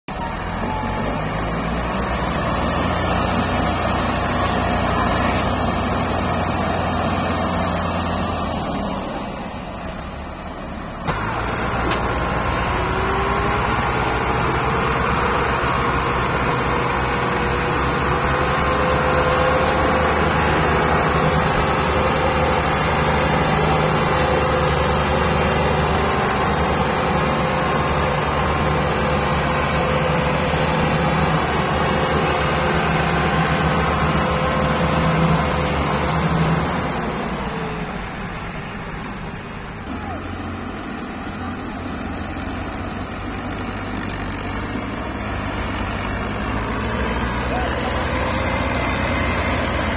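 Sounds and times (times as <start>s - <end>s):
diesel tractors straining: 0.1s - 49.9s.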